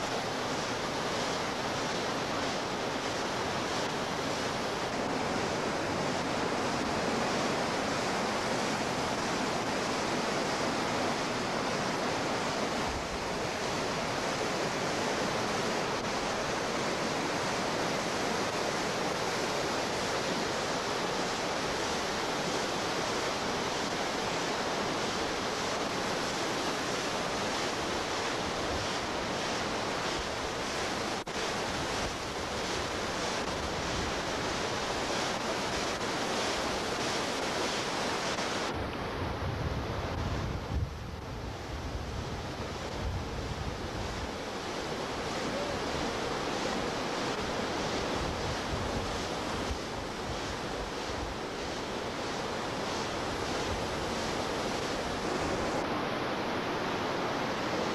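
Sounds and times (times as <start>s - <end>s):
whitewater rapids roaring: 0.0s - 40.5s, 41.5s - 57.9s.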